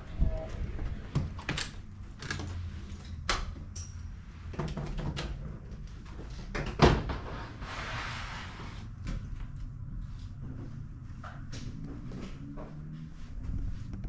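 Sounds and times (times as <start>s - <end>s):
steady low rumble: 0.0s - 4.6s, 5.3s - 14.0s.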